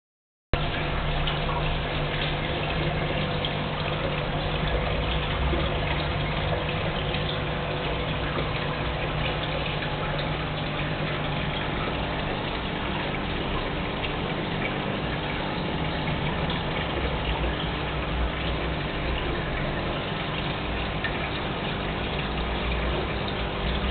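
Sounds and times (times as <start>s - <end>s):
aquarium water bubbling: 0.6s - 23.9s
pump humming: 0.6s - 23.9s.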